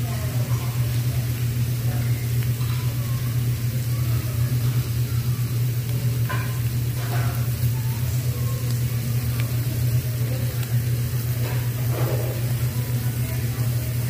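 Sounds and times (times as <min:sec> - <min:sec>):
meat sizzling on a grill: 0:00.0 - 0:14.0
steady low hum: 0:00.0 - 0:14.0.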